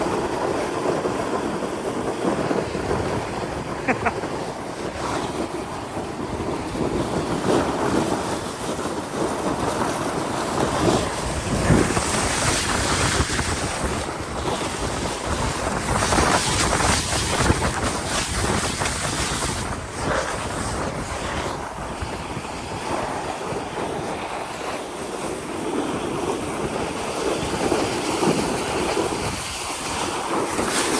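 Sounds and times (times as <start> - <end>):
wind noise on microphone: 0.0 - 30.9.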